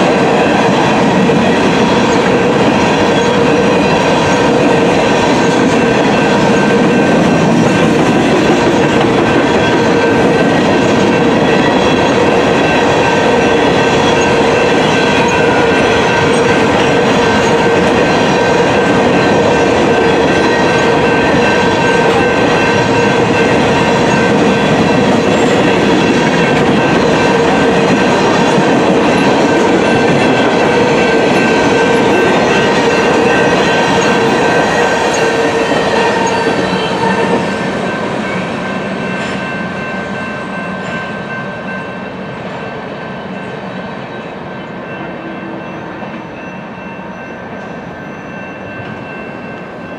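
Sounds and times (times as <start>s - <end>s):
train cars rolling on rails: 0.0s - 49.9s.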